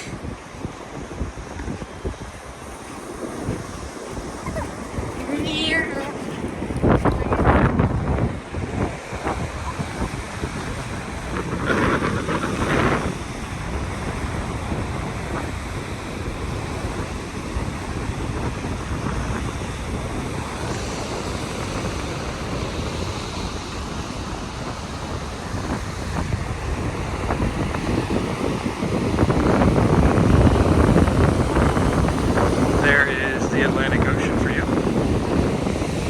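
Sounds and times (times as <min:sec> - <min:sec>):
ocean surf: 0:00.0 - 0:36.0
wind buffeting microphone: 0:00.0 - 0:36.0.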